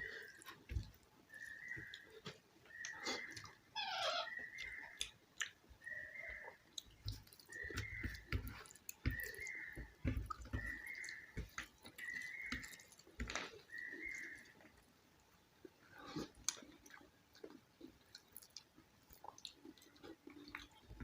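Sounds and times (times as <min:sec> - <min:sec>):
person chewing food: 0:00.0 - 0:03.6, 0:04.4 - 0:14.9, 0:15.6 - 0:21.0.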